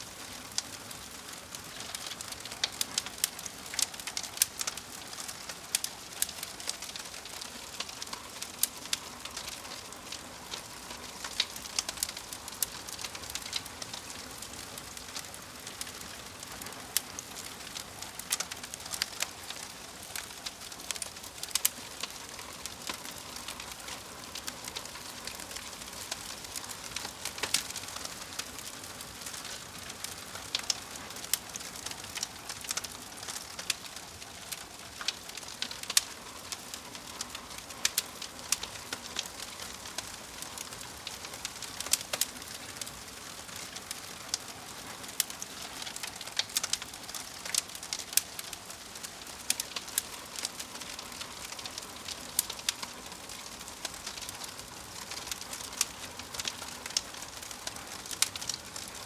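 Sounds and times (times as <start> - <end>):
log fire crackling: 0.0 - 59.0.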